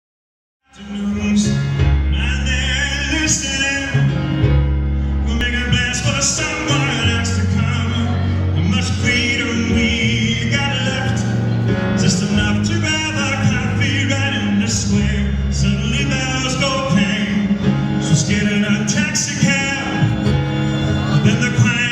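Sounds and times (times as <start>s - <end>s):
man singing: 0.6s - 21.9s
string chords: 0.8s - 21.9s
sustained bass notes: 0.8s - 21.9s.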